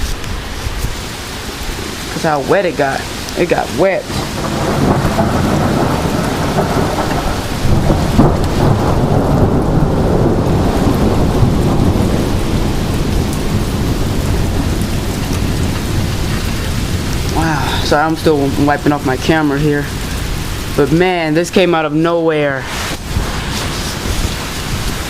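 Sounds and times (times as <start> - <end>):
heavy rain: 0.0 - 25.0
wind buffeting microphone: 0.0 - 25.0.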